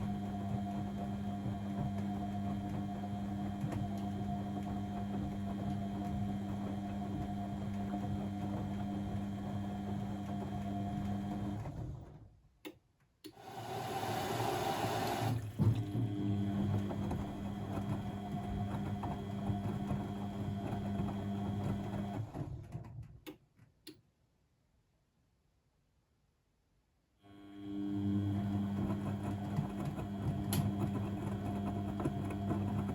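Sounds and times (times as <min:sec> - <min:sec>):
washing machine motor humming: 0:00.0 - 0:12.1, 0:13.4 - 0:22.9, 0:27.4 - 0:32.9.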